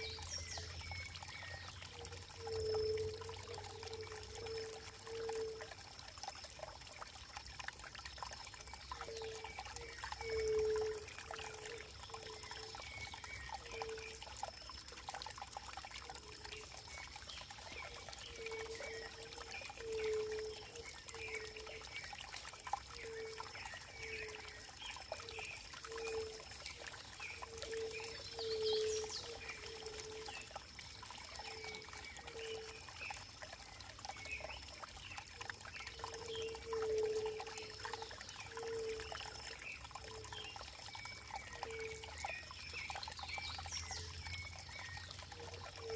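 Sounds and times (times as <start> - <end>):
water trickling and pouring: 0.0 - 45.9.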